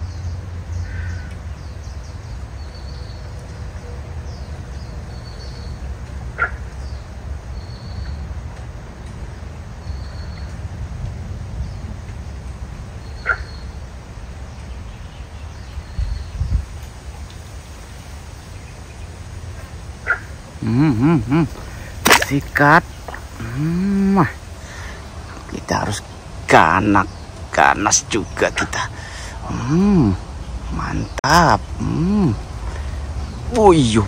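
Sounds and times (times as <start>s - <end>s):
low bumps: 4.4s - 34.0s.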